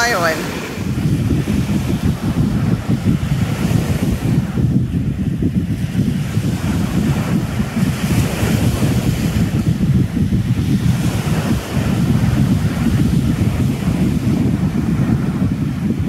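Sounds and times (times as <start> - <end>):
surf breaking on sand beach: 0.0 - 16.0
wind buffeting microphone: 0.0 - 16.0.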